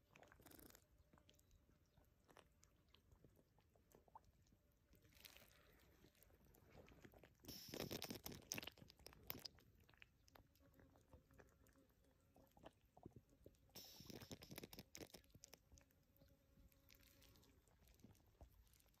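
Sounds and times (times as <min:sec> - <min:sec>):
faint wet crackling of mud: 0:00.0 - 0:19.0.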